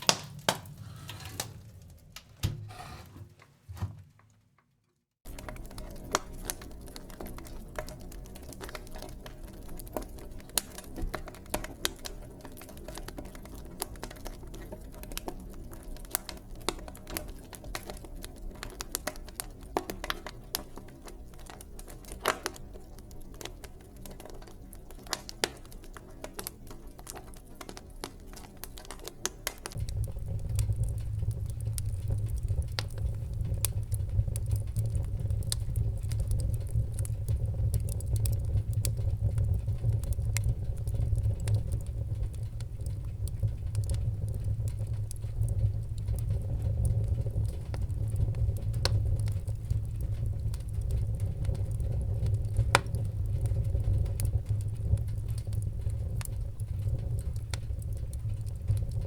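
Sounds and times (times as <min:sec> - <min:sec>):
wood fire crackling and popping: 0:00.0 - 0:02.8, 0:05.2 - 0:59.0
low rumble of flames: 0:05.2 - 0:59.0.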